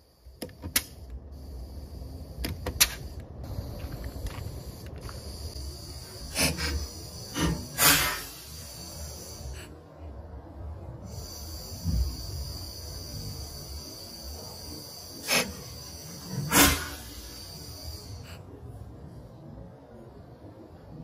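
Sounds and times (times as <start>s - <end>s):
propane torch hissing: 0.0s - 9.8s, 10.8s - 18.6s.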